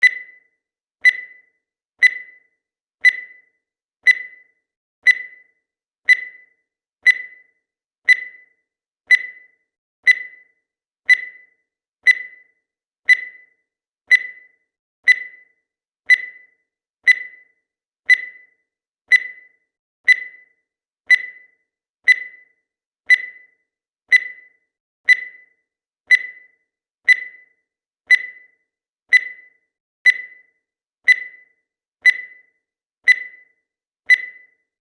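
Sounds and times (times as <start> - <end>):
timer electronic beeps: 0.0 - 34.8.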